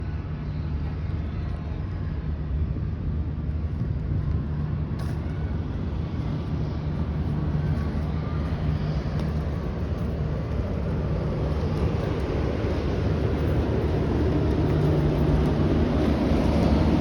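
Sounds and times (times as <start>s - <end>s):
exhaust fans humming: 0.0s - 17.0s.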